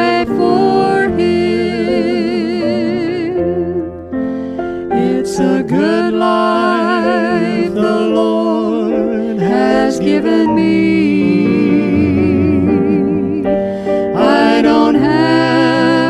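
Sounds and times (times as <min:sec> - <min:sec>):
person singing with vibrato: 0:00.0 - 0:16.0
sustained instrumental backing: 0:00.0 - 0:16.0.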